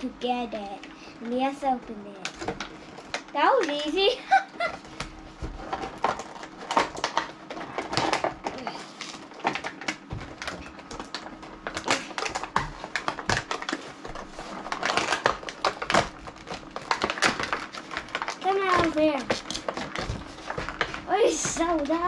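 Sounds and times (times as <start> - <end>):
toy packaging being unpacked: 2.1 - 22.0.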